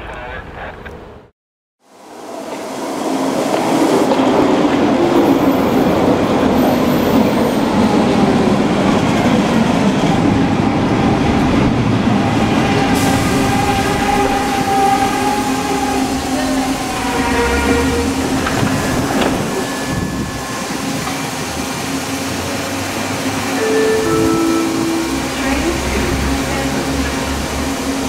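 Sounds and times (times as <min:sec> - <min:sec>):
train wheels rumbling on rail: 0:02.3 - 0:28.0.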